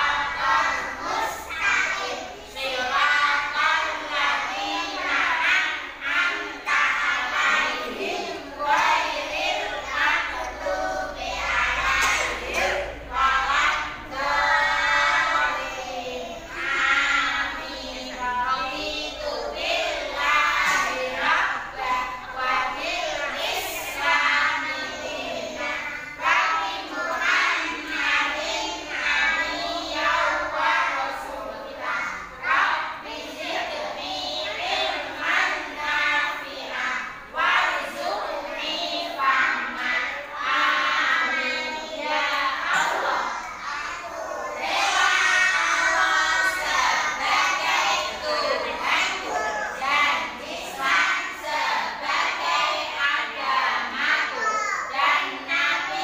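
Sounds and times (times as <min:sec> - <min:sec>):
children singing together: 0:00.0 - 0:56.0.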